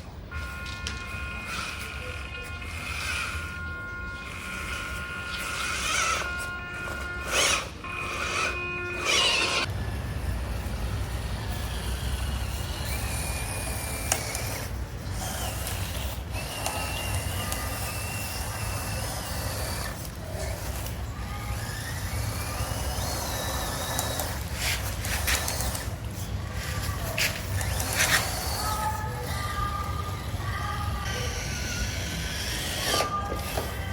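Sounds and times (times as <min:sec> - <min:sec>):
rc truck motor rumble and whine: 0:00.0 - 0:33.9
steady stacked tones: 0:00.0 - 0:33.9.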